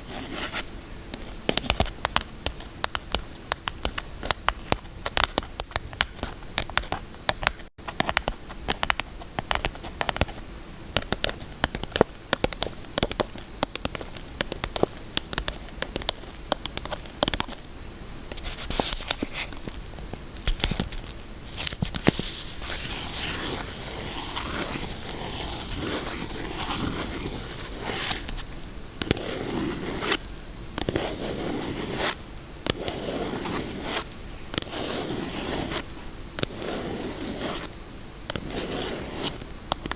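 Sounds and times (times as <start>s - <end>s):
scratching and crackling: 0.0s - 39.9s.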